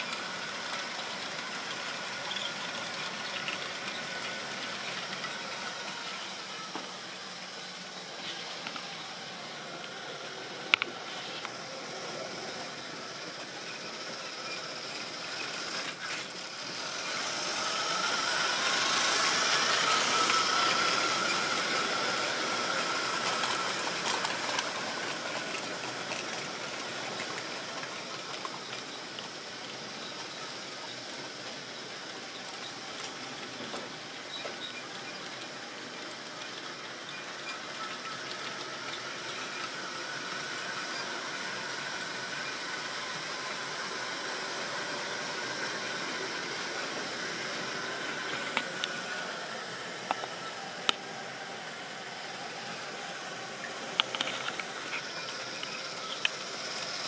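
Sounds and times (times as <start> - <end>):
model train on track: 0.0 - 57.0.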